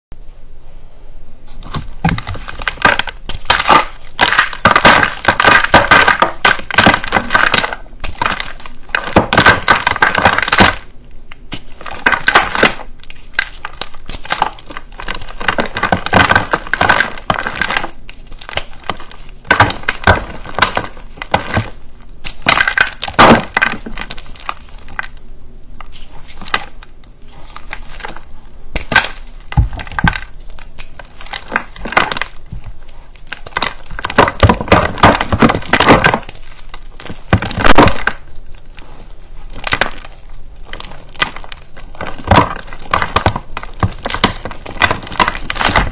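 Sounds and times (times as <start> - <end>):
hands crushing chalk blocks: 1.6 - 45.9.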